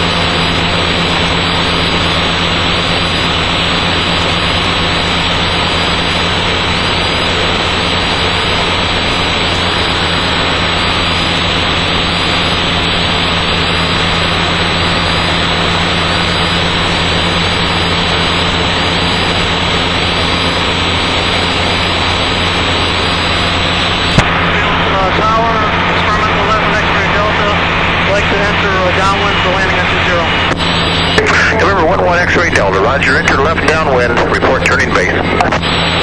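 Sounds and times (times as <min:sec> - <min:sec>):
aircraft engine and propeller drone: 0:00.0 - 0:36.0.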